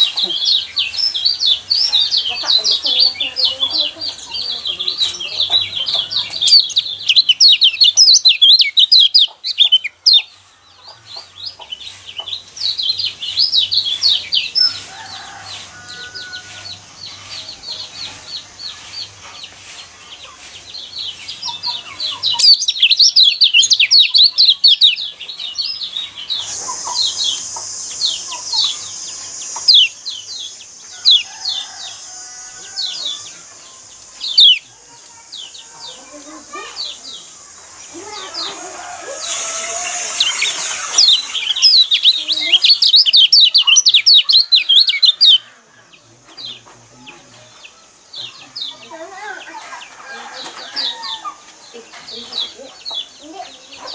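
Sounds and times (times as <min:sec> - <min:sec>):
bird chattering song: 0:00.0 - 0:53.9
steady hiss: 0:10.3 - 0:53.9.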